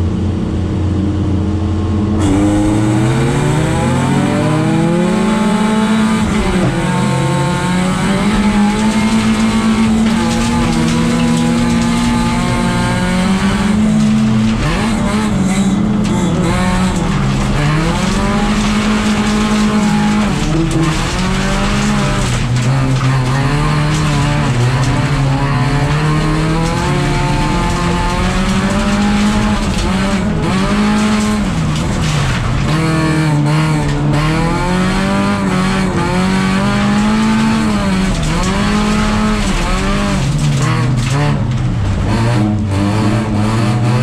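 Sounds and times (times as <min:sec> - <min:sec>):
car engine revving: 0:00.0 - 0:44.0
road and tyre noise: 0:00.0 - 0:44.0.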